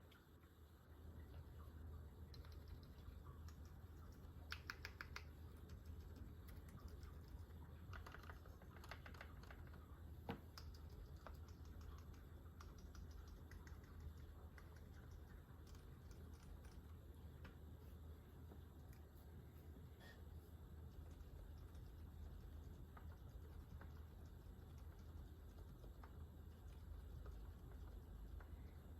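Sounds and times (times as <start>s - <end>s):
quiet keyboard typing: 2.2s - 17.6s, 20.8s - 28.9s.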